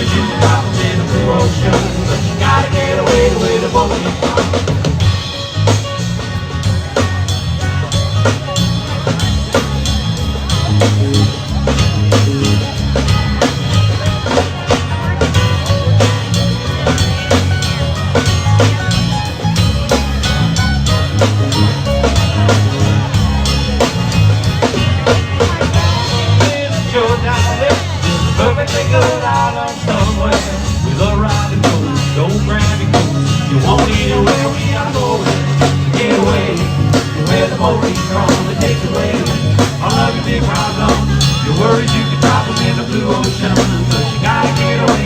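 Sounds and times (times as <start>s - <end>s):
drum kit beat: 0.0s - 45.0s
heavy bass line: 0.0s - 45.0s.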